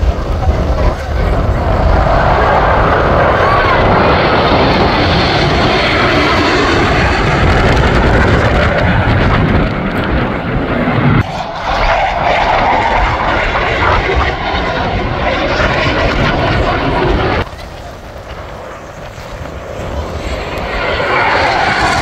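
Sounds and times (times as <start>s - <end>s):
jet roar: 0.0s - 22.0s.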